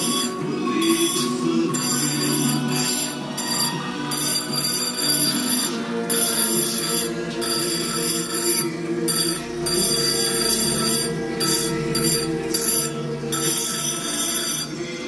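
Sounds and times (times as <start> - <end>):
grinding wheel whining on glass: 0.0 - 15.0.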